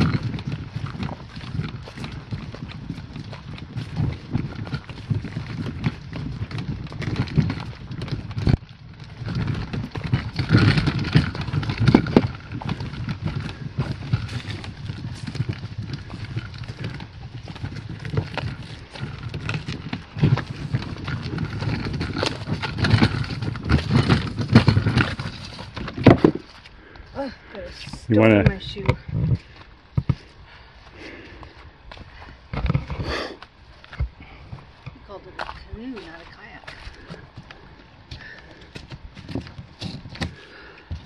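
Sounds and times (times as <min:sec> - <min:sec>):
crunching footsteps: 0:00.0 - 0:41.0
kayak hull scraping over gravel: 0:00.0 - 0:41.0.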